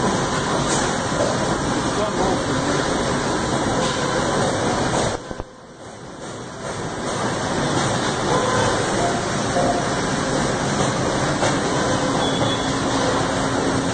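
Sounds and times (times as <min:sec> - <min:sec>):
machine hum: 0:00.0 - 0:13.9.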